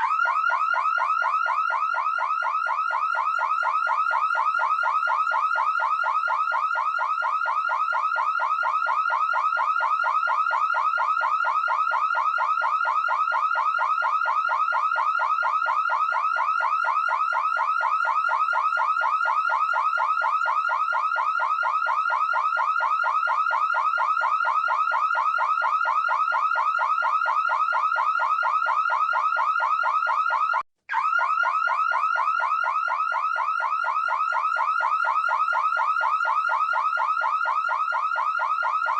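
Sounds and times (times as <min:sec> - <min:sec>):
electronic alarm siren sweeping: 0:00.0 - 0:38.9.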